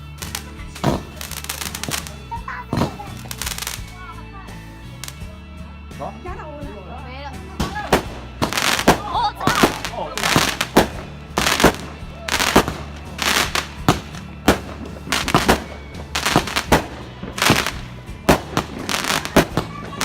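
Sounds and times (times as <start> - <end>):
fireworks bangs: 0.0 - 4.0, 7.6 - 20.0
fireworks crackling hiss: 0.0 - 5.3, 7.6 - 20.0.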